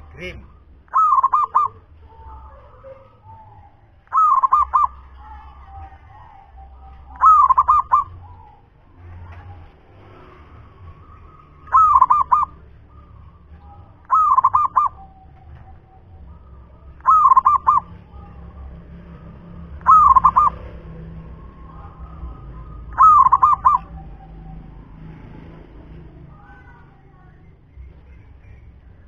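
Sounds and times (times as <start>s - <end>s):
dove cooing: 0.0s - 25.8s.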